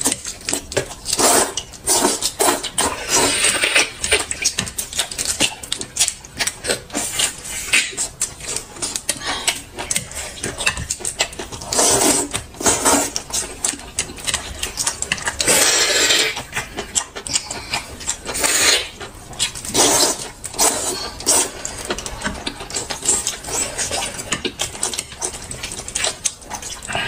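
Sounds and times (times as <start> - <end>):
chewing and utensil clicks: 0.0 - 27.0.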